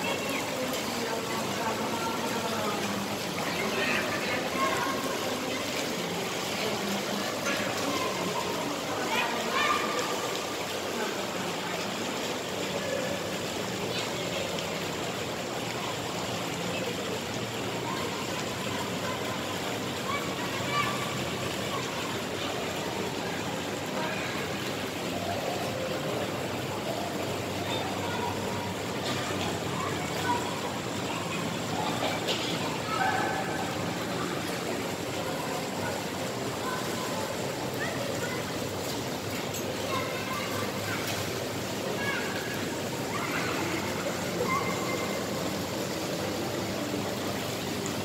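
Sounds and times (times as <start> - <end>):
background noise wash: 0.0 - 48.0
murmur of distant voices: 0.0 - 48.0.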